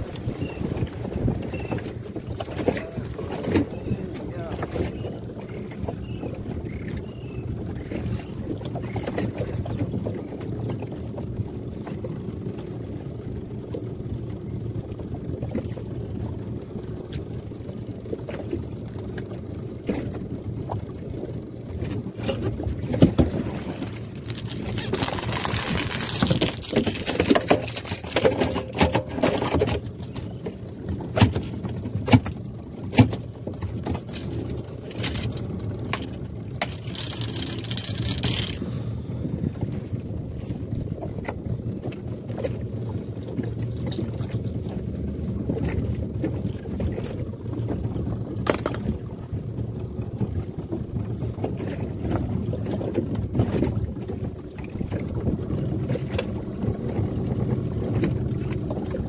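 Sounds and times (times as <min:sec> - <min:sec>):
outboard motor running: 0:00.0 - 0:59.0
water washing against hull: 0:00.0 - 0:59.0
wind buffeting microphone: 0:00.0 - 0:59.0.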